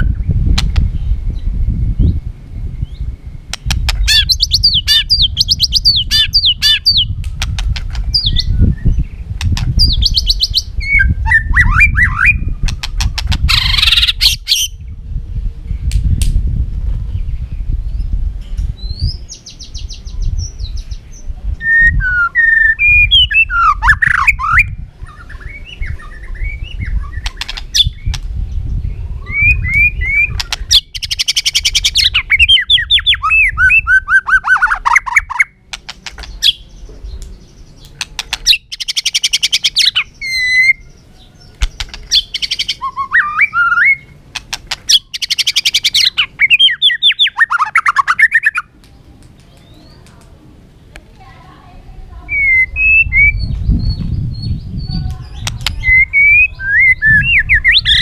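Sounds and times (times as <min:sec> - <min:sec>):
bird singing whistled song: 0:00.0 - 0:03.2, 0:03.9 - 0:09.2, 0:09.8 - 0:15.0, 0:18.8 - 0:35.6, 0:36.2 - 0:44.2, 0:44.9 - 0:48.7, 0:52.3 - 0:58.0.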